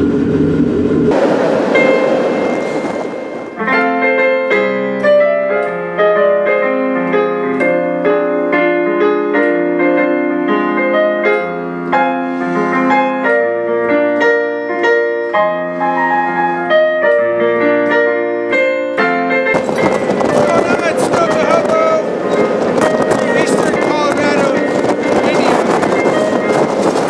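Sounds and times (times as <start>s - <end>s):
background piano music: 1.0s - 27.0s.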